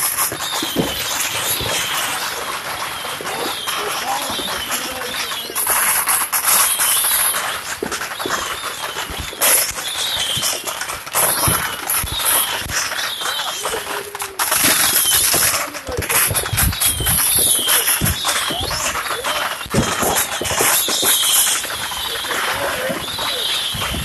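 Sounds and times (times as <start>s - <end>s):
fireworks crackling: 0.0s - 24.0s
fireworks popping and banging: 0.0s - 24.0s.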